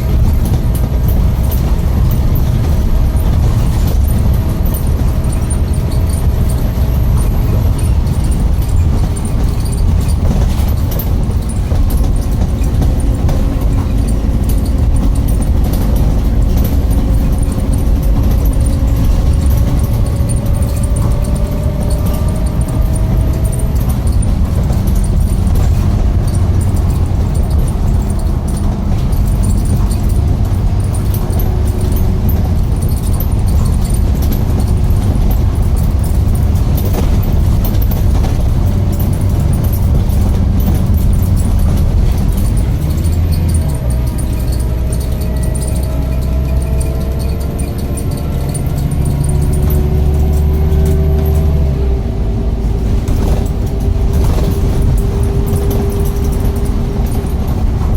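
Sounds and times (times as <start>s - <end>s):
engine low rumble: 0.0s - 57.9s.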